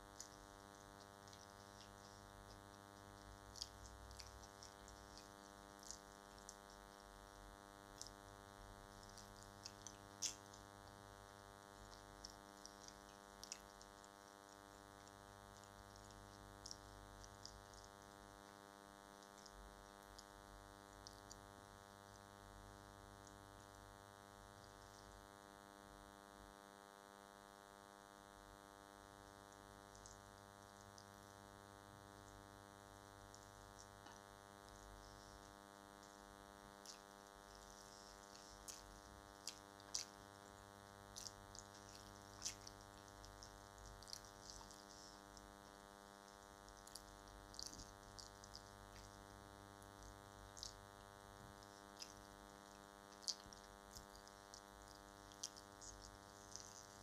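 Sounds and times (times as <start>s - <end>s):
chewing and eating clicks: 0.0s - 25.5s, 29.2s - 57.0s
faint electrical hum: 0.0s - 57.0s.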